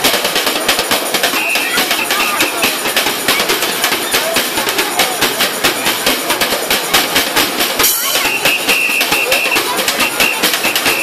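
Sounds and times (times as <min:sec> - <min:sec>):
snare drum samba beat: 0:00.0 - 0:11.0.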